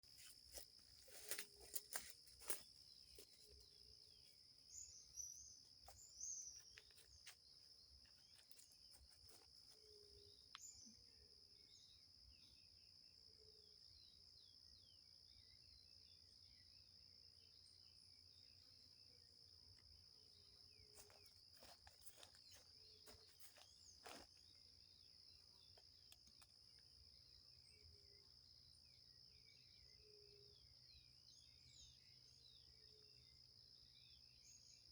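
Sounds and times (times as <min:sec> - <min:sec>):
high insect trill: 0:00.1 - 0:12.8, 0:17.3 - 0:34.9.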